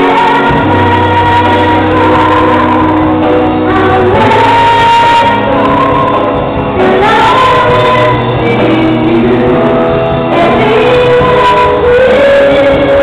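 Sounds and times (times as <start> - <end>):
small band with acoustic guitar: 0.0 - 13.0
woman singing into a microphone: 0.0 - 13.0.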